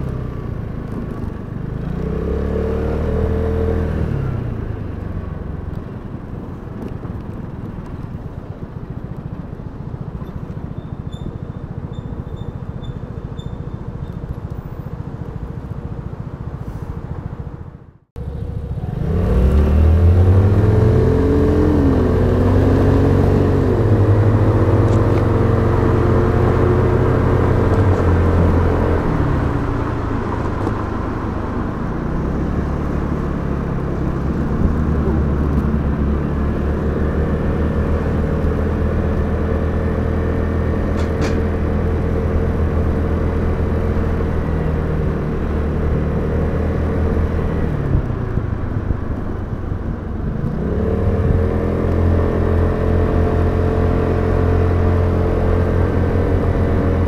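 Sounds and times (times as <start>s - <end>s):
scooter engine accelerating: 0.0s - 9.0s, 18.2s - 57.0s.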